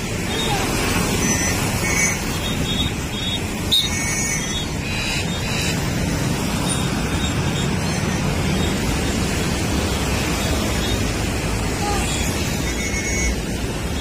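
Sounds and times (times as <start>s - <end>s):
low road traffic rumble: 0.0s - 14.0s.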